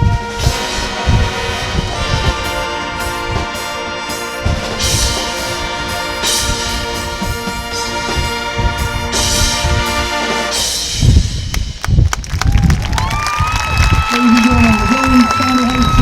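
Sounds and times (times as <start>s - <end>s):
brass chords: 0.0s - 11.8s, 14.0s - 16.0s
percussion hits: 0.0s - 16.0s.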